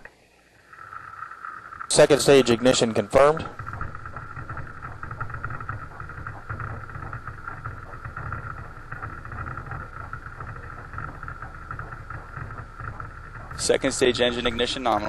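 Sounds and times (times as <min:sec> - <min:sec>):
rocket engine rumble: 0:00.7 - 0:15.0.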